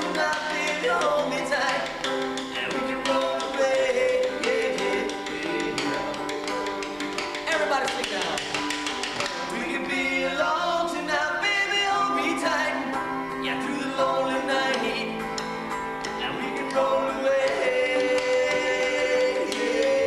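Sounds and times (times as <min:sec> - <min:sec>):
men singing in harmony: 0:00.0 - 0:07.7, 0:09.1 - 0:20.0.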